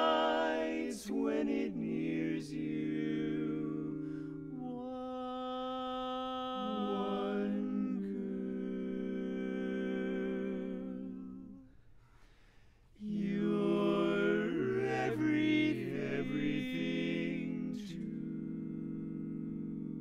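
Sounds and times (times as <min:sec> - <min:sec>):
male quartet singing a cappella: 0:00.0 - 0:11.7, 0:13.0 - 0:20.0.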